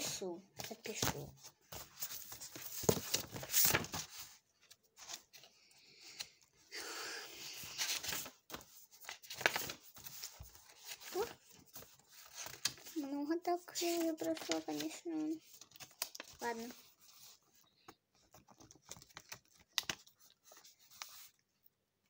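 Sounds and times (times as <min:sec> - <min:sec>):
paper rustling: 0:00.6 - 0:06.5, 0:07.4 - 0:21.6.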